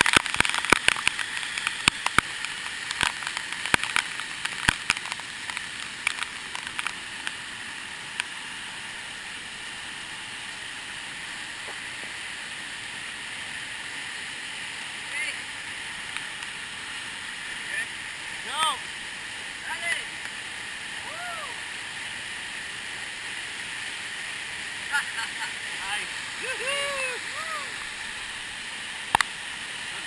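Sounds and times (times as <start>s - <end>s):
waterfall rushing hiss: 0.0s - 30.0s.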